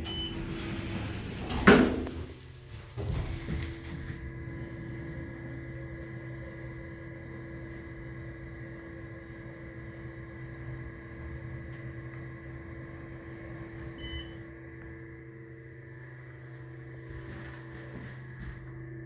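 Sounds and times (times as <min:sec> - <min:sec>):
elevator machinery humming: 0:00.0 - 0:19.0.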